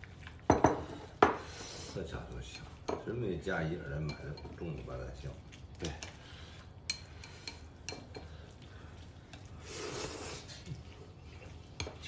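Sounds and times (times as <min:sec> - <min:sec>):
noodles being stirred: 0:00.0 - 0:12.0.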